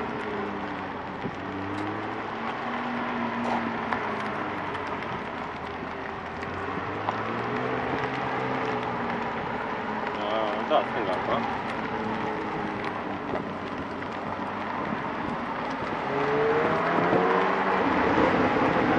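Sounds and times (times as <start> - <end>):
car engine running low: 0.0 - 18.9.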